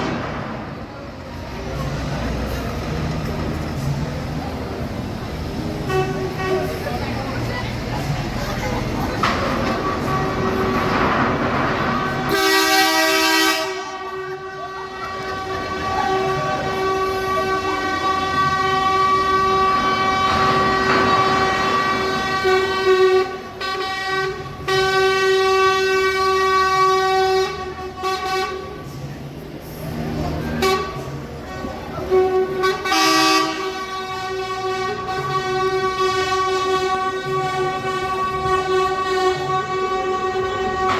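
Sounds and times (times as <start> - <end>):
truck air horns blasting: 0.0 - 40.9.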